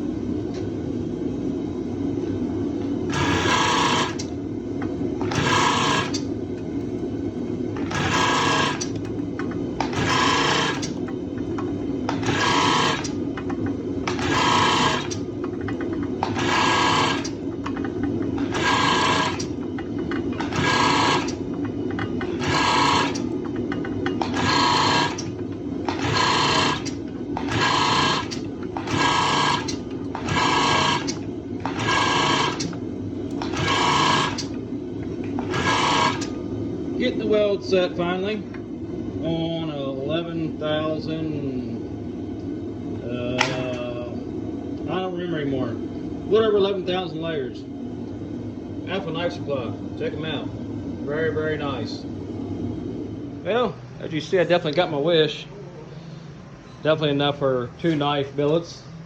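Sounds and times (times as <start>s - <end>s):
motor hum: 0.0s - 59.0s.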